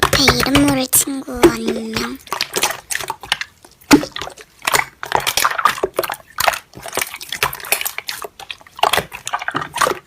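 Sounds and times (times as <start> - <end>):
slime squishing: 0.0 - 10.0.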